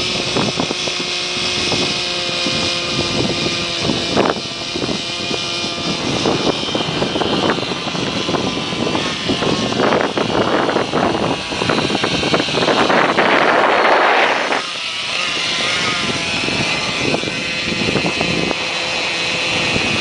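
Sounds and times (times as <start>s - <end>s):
model helicopter engine whine: 0.0s - 20.0s
wind buffeting microphone: 0.0s - 20.0s.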